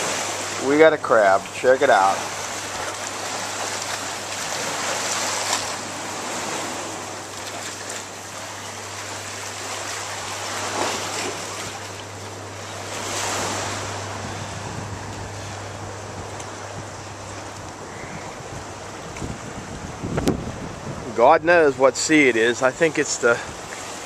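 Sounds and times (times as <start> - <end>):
waves washing against rocks: 0.0 - 24.0.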